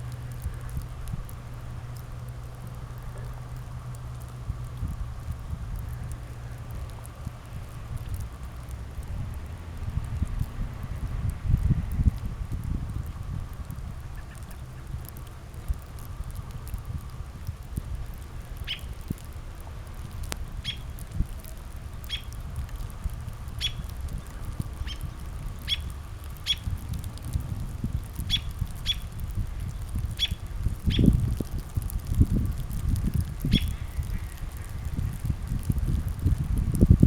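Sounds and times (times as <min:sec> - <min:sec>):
wind rumbling on microphone: 0:00.0 - 0:37.0.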